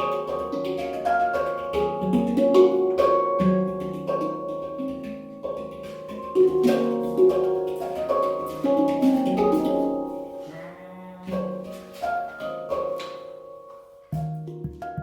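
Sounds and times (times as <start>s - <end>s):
handpan notes ringing: 0.0s - 10.5s, 11.2s - 15.0s.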